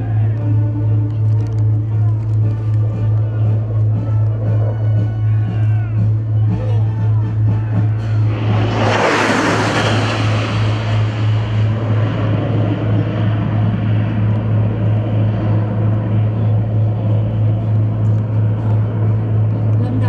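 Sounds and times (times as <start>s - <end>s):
aircraft passing overhead: 0.0s - 20.0s
steady low hum: 0.0s - 20.0s.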